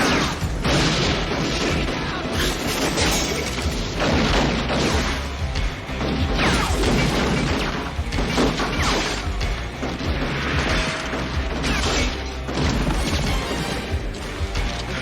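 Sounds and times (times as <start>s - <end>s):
crashes and booms of impacts: 0.0s - 15.0s
driving action film music: 0.0s - 15.0s.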